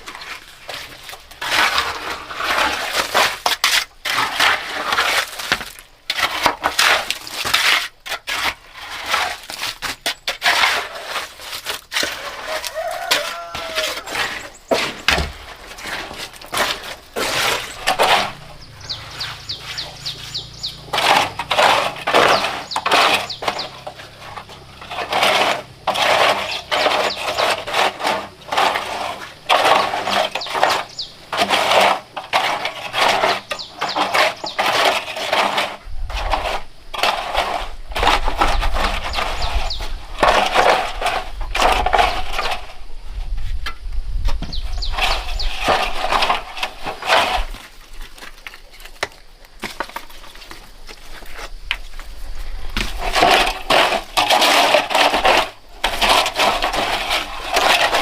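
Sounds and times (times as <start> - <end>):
scraping and knocking strokes: 0.0 - 58.0.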